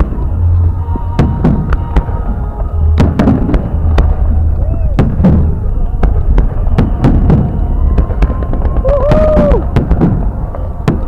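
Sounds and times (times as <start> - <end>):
fireworks bangs and pops: 0.0 - 11.0
low rumble: 0.0 - 11.0.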